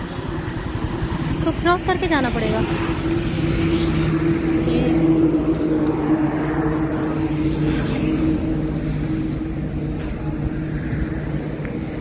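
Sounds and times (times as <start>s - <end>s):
road traffic noise: 0.0s - 12.0s
vehicle engine droning: 0.0s - 12.0s.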